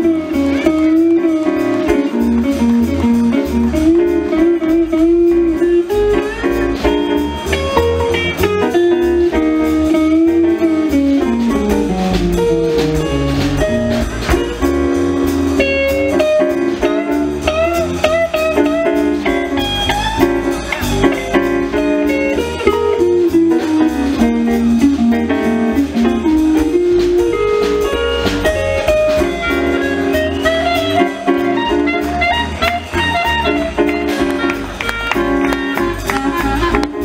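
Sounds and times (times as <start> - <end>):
jazz band playing: 0.0 - 37.0.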